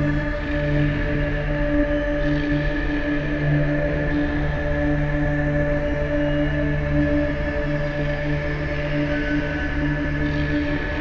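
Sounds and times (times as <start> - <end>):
dark ambient drone: 0.0 - 11.0.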